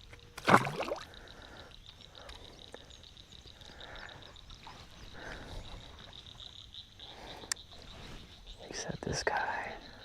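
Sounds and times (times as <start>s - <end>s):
frogs trilling: 0.0s - 10.0s.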